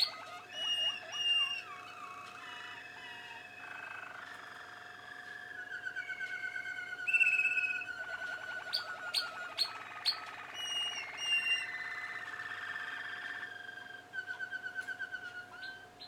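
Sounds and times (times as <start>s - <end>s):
canaries singing trills: 0.0s - 16.0s.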